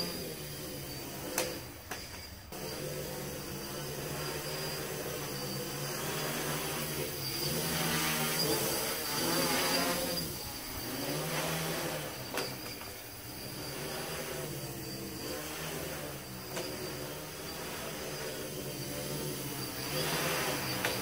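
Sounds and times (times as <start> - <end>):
quadcopter motors buzzing: 0.0 - 21.0.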